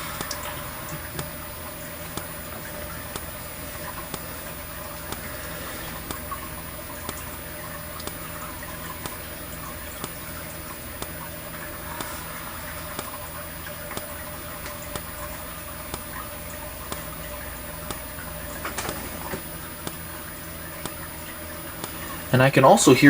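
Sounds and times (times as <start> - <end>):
strobe ticking: 0.0 - 22.8
faint steady hum: 0.0 - 23.0.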